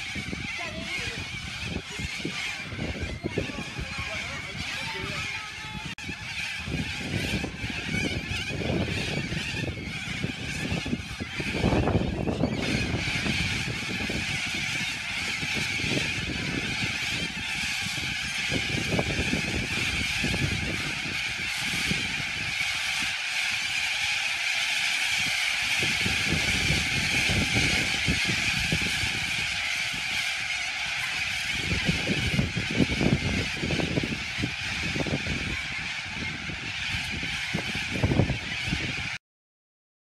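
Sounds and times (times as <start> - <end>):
flock of cockatoos screeching: 0.0 - 39.2.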